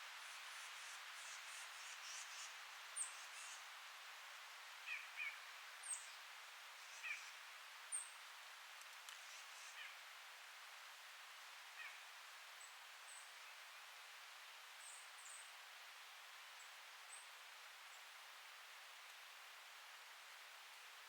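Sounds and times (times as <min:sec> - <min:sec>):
wind rustling leaves: 0:00.0 - 0:21.0.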